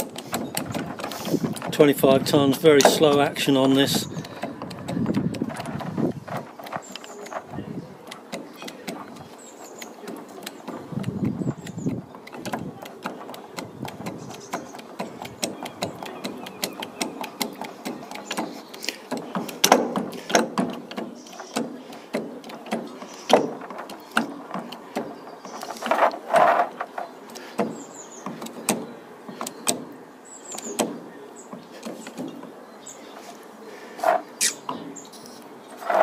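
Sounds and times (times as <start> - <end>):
hydraulic tool clicks and knocks: 0.0 - 32.6.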